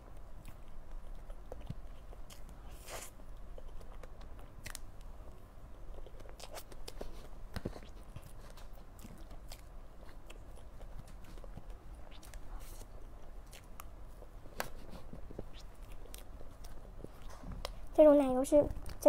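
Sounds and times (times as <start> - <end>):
person chewing: 0.1 - 17.9.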